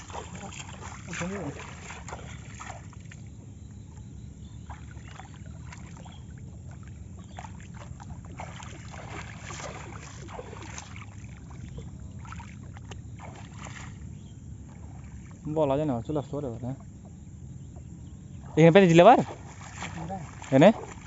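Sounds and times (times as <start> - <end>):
steady low rumble: 0.0 - 21.0
water splashing and sloshing: 0.0 - 21.0.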